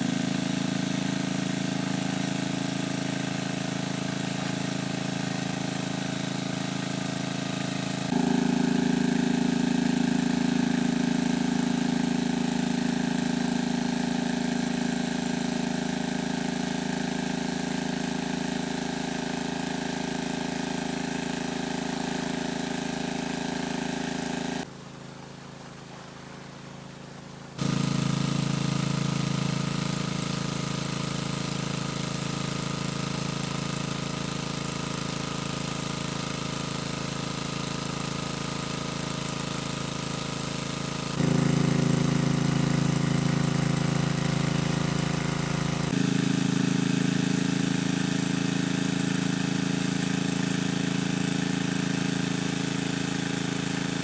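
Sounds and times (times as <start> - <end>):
small engine running: 0.0 - 24.7, 27.6 - 54.0.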